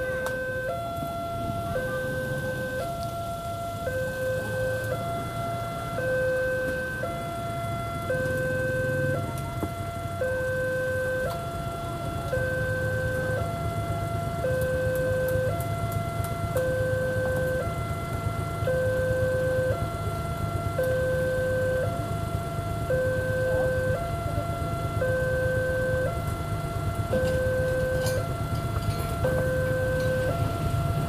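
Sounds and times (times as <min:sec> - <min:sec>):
two-tone crossing alarm: 0:00.0 - 0:31.0.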